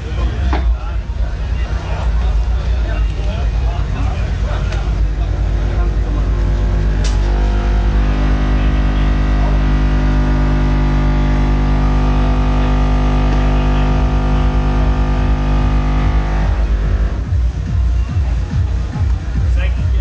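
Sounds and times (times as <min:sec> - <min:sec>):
distorted subwoofer bass tone: 0:00.0 - 0:20.0.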